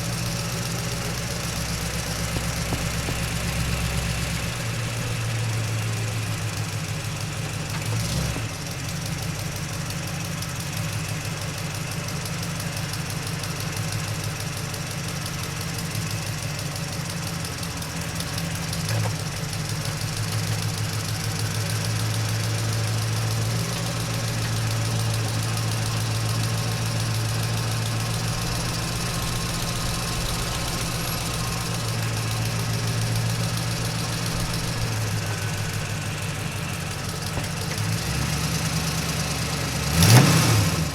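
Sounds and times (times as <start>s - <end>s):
truck engine droning: 0.0s - 40.9s.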